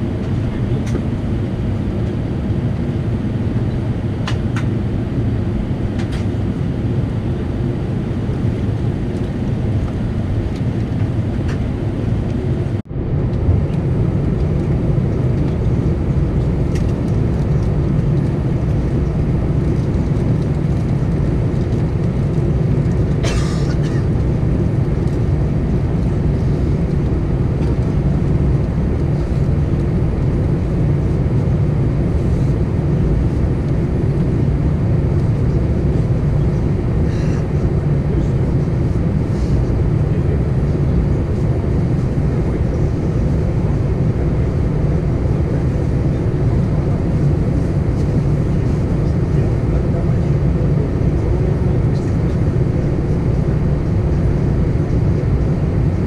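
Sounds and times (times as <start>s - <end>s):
jet engines taxiing rumble: 0.0s - 56.0s.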